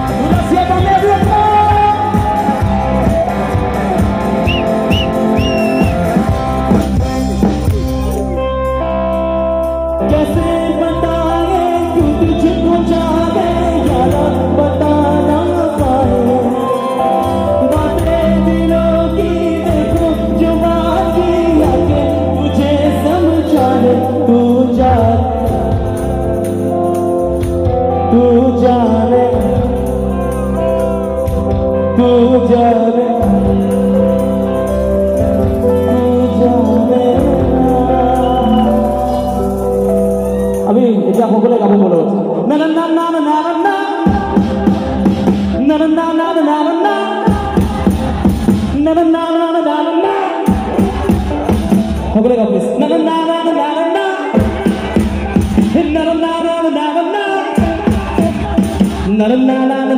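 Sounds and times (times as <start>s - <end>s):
man singing: 0.0s - 6.4s, 9.9s - 26.5s, 27.6s - 59.9s
keyboard and guitar band: 0.0s - 59.9s.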